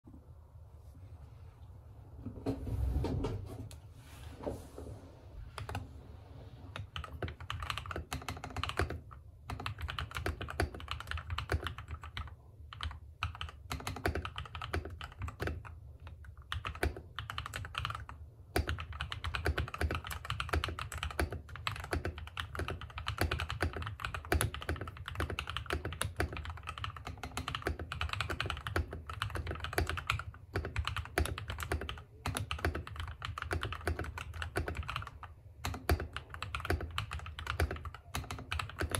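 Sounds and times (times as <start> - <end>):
mechanical keyboard typing: 5.6 - 5.8, 6.7 - 38.9.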